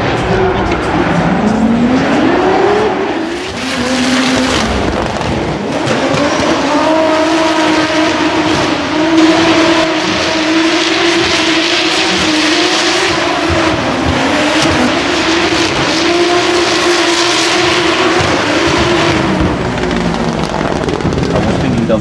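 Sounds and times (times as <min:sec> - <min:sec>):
car engines at high revs: 0:00.0 - 0:22.0.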